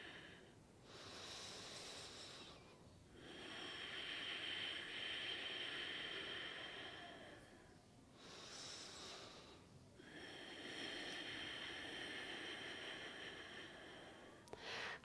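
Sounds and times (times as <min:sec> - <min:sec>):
faint slow breathing: 0:00.0 - 0:15.0.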